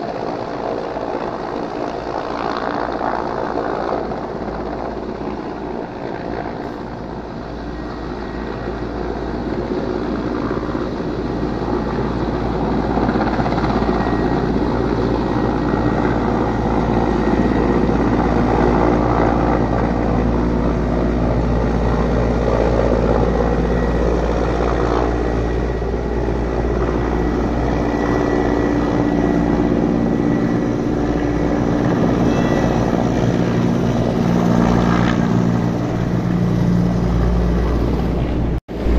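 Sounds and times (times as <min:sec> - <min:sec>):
helicopter rotor and turbines: 0:00.0 - 0:38.9.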